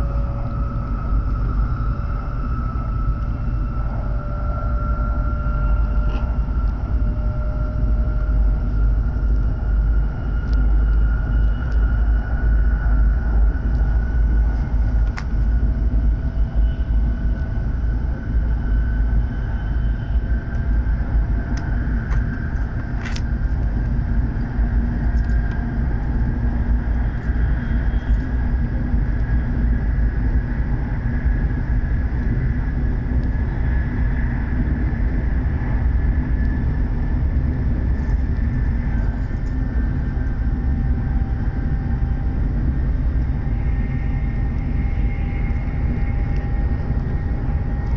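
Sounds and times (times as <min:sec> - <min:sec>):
train cabin deep rumble: 0:00.0 - 0:47.9.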